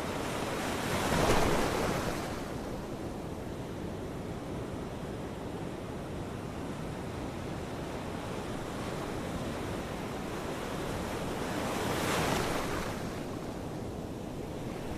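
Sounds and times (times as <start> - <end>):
ocean waves washing on shore: 0.0 - 14.9.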